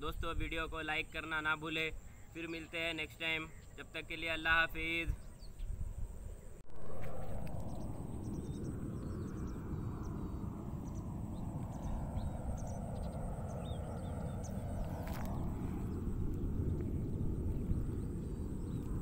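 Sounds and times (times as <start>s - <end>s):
wind rumble on microphone: 0.0s - 1.1s, 4.5s - 19.0s
birds chirping: 0.8s - 19.0s.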